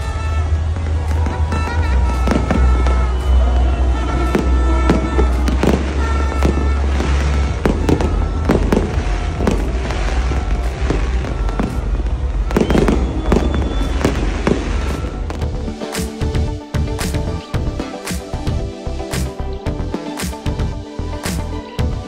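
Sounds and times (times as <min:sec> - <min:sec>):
fireworks bangs and cracks: 0:00.0 - 0:20.8
music playing: 0:00.0 - 0:22.0.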